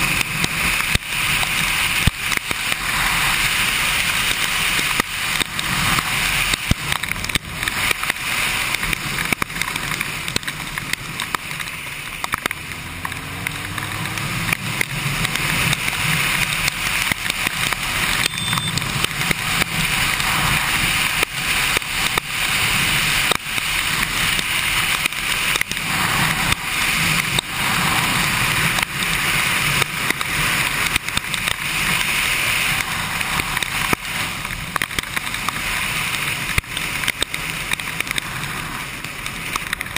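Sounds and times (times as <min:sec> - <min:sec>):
motorcycle engine hum: 0:00.0 - 0:39.9
raindrops ticking on camera: 0:00.0 - 0:39.9
wind rush and tyre spray: 0:00.0 - 0:39.9.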